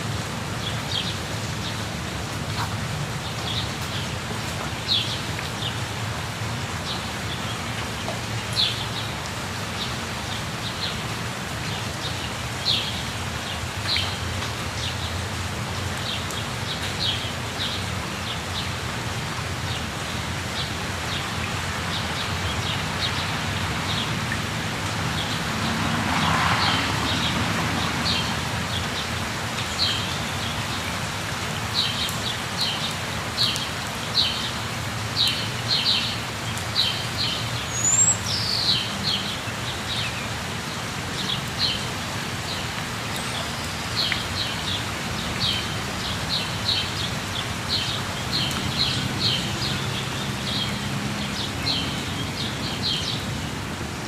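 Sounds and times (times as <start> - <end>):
rush of falling water: 0.0 - 54.0.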